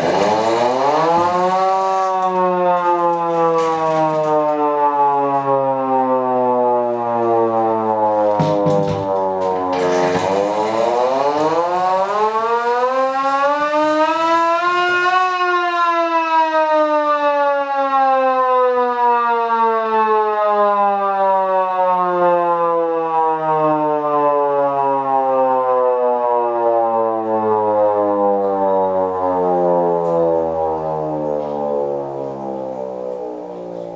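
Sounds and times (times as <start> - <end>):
hand-cranked siren wailing: 0.0 - 33.9.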